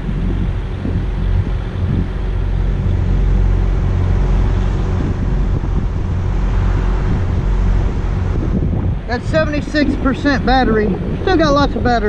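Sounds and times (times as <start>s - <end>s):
steady low hum: 0.0s - 12.0s
wind buffeting microphone: 0.0s - 12.0s.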